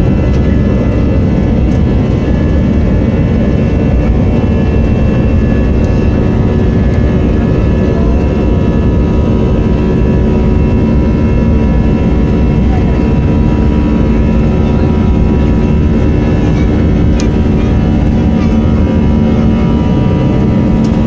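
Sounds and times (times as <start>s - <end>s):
jet engines heard from cabin: 0.0s - 21.0s.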